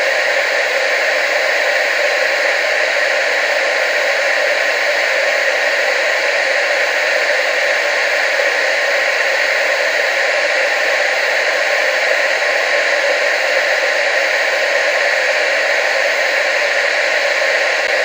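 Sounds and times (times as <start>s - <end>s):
tv static hiss: 0.0s - 18.0s.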